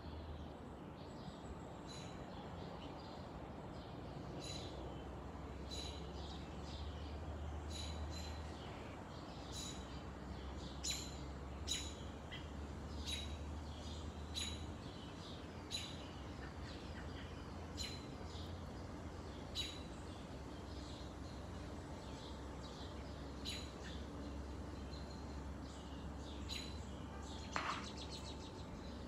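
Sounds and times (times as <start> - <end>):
bird chirping: 1.0 - 29.0.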